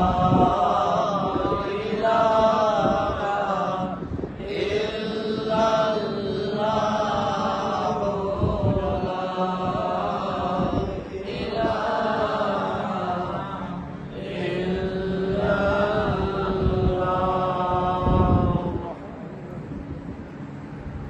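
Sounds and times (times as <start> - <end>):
man chanting religious recitation: 0.0 - 19.8.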